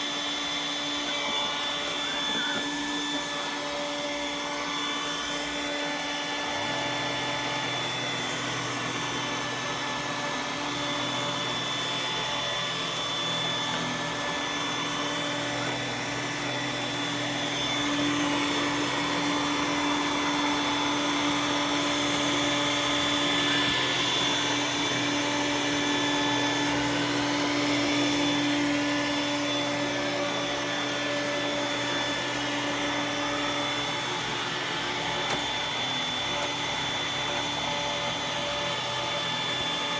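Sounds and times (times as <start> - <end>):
robot vacuum running: 0.0 - 39.9.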